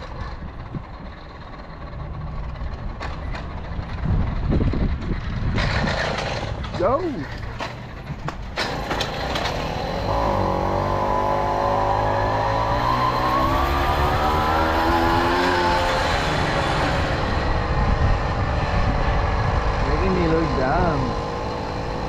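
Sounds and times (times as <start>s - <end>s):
moped engine accelerating: 0.0s - 22.0s.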